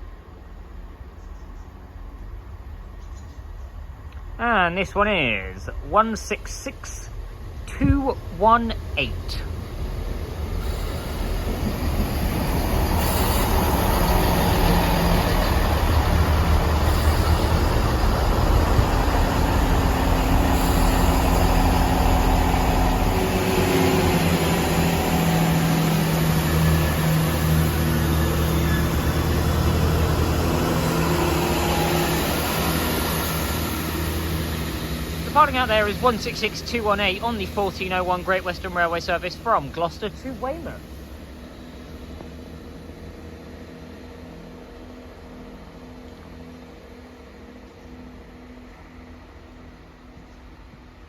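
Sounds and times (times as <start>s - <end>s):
train diesel engines droning: 0.0s - 51.0s.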